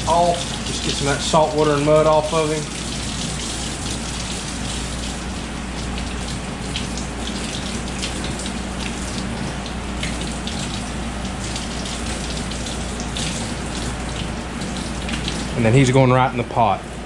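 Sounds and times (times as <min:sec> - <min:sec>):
tap water splashing into sink: 0:00.0 - 0:15.6.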